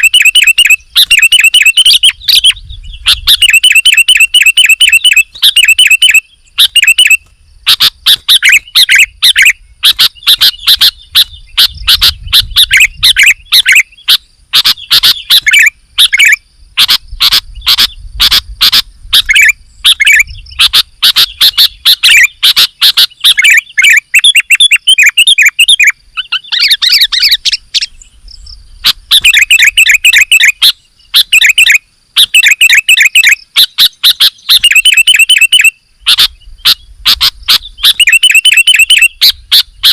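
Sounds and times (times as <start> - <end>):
bird singing chirping phrases: 0.0 - 39.9.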